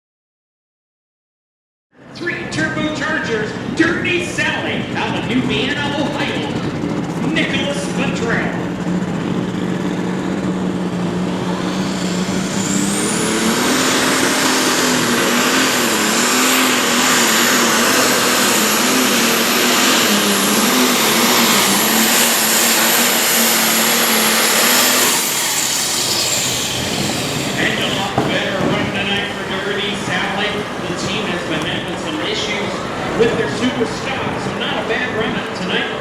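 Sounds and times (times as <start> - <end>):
diesel tractor engine: 2.0 - 36.0
high turbo whine: 2.0 - 36.0.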